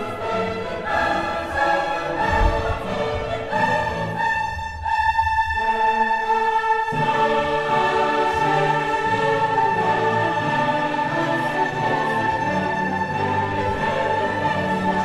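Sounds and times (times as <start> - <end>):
orchestral music with choir: 0.0 - 15.0.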